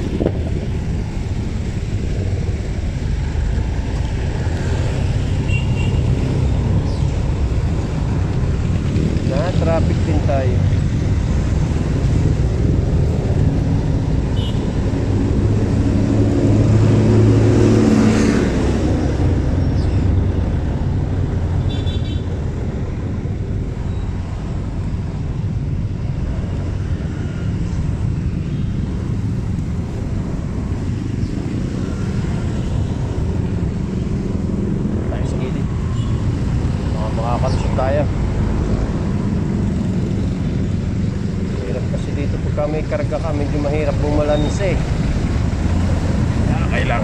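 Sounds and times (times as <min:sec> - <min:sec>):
traffic engines rumbling: 0:00.0 - 0:47.0.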